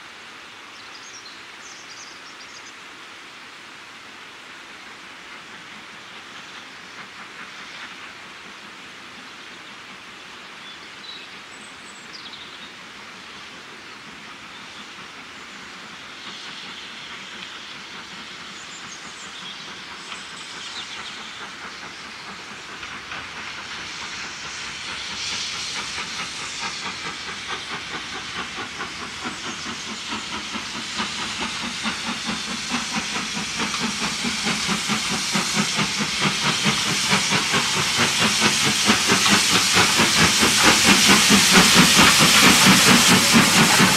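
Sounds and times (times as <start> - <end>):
steam hissing: 3.6 - 43.9
steam locomotive chuffing: 4.6 - 10.6, 11.3 - 43.9.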